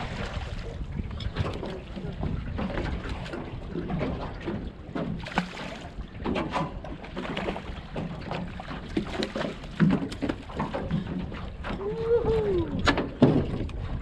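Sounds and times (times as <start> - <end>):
water against boat hull: 0.0 - 14.0
wind buffeting microphone: 0.0 - 14.0.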